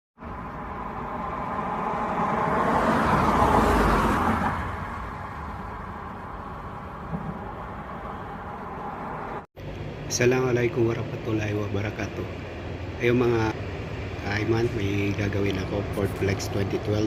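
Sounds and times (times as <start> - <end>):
traffic rumble: 0.2 - 17.0
vehicle passing by: 0.2 - 17.0.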